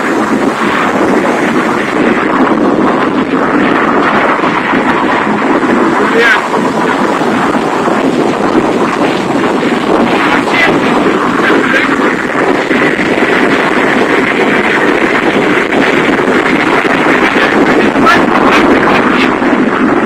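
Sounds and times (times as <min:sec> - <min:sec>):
road and wind noise inside car: 0:00.0 - 0:20.0.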